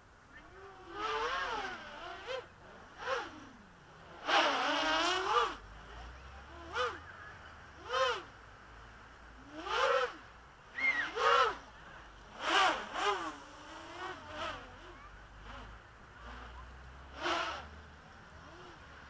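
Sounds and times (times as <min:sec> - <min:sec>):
quadcopter motors whining: 0:00.3 - 0:08.3, 0:09.4 - 0:19.0.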